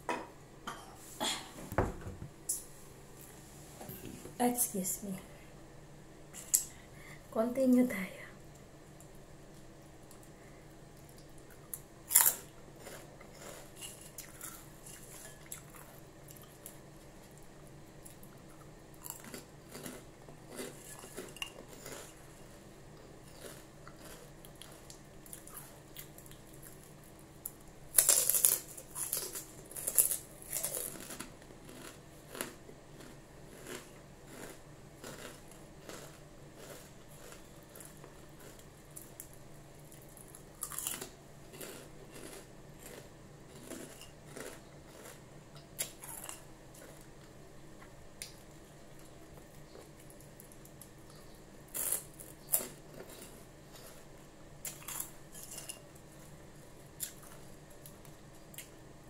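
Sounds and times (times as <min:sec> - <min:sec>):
crunching pork rinds: 0:11.0 - 0:58.8.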